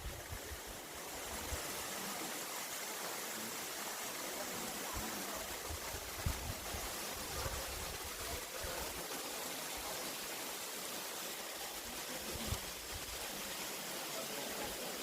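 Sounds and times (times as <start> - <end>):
small waterfall splashing: 0.0 - 15.0.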